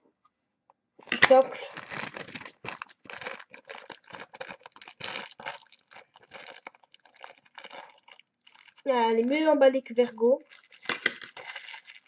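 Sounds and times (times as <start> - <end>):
cardboard and plastic crinkling: 1.0 - 12.0.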